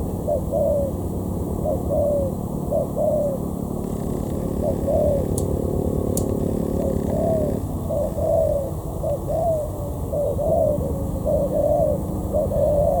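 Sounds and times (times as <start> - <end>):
dove cooing: 0.2 - 1.0, 1.6 - 13.0.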